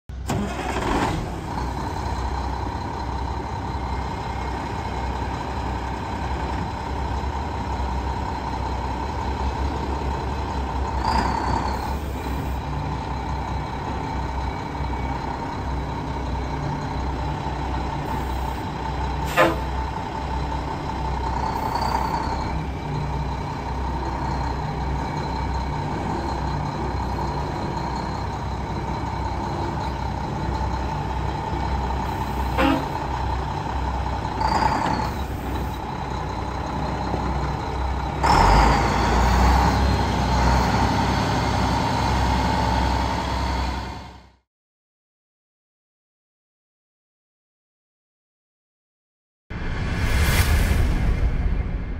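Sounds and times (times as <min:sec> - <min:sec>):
diesel truck engine idling: 0:00.1 - 0:44.4.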